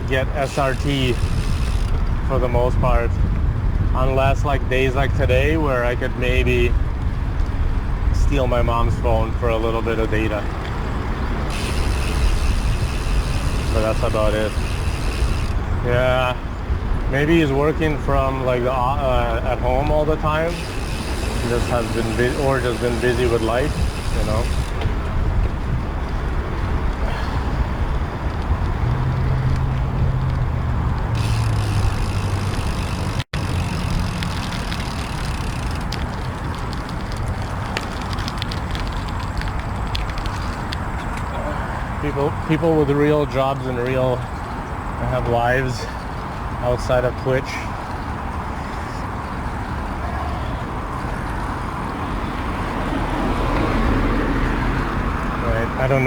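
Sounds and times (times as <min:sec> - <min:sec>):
road rumble: 0:00.0 - 0:56.0
vehicle engine hum: 0:00.0 - 0:56.0.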